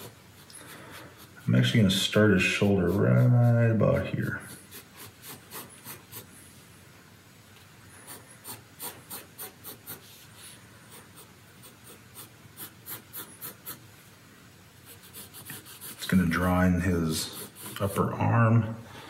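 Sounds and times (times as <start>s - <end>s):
pencil scratching on paper: 0.0s - 6.4s, 7.9s - 13.9s, 14.8s - 18.3s.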